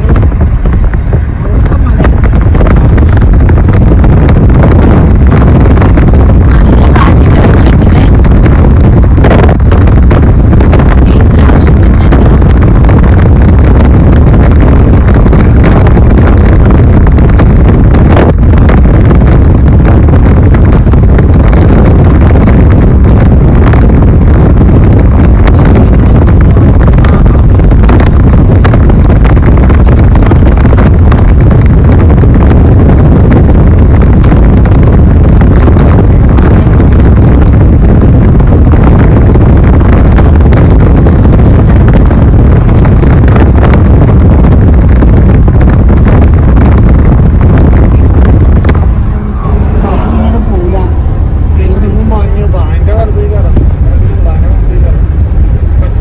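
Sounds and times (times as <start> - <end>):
wind and road noise in car: 0.0 - 56.0.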